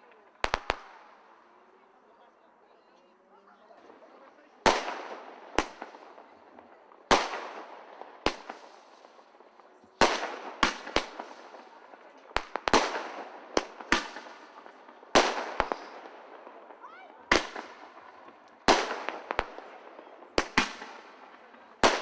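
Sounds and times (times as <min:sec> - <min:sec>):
fireworks bursting with echo: 0:00.0 - 0:02.0, 0:03.8 - 0:22.0.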